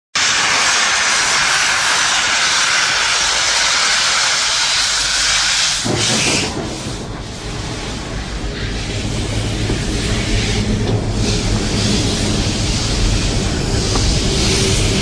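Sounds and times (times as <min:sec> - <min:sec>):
steam hissing: 0:00.2 - 0:15.0.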